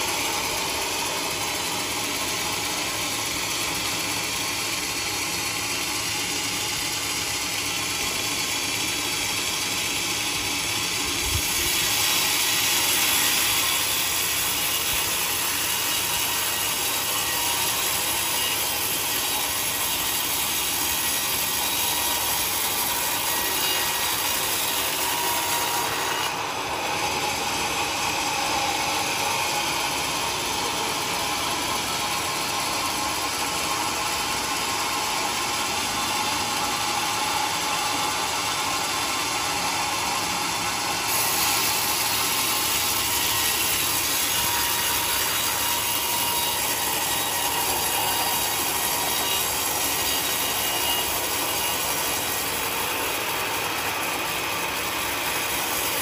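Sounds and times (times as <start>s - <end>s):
band saw cutting wood: 0.0s - 56.0s.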